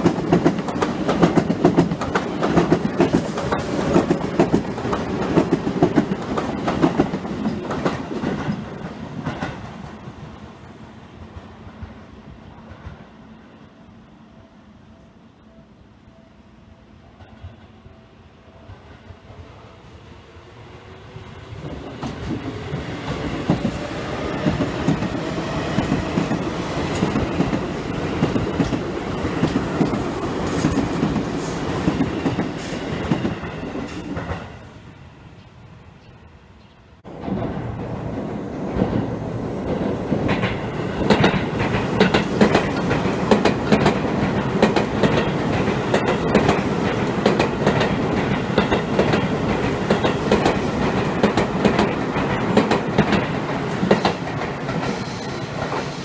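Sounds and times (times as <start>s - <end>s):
electric train running past: 0.0s - 56.0s.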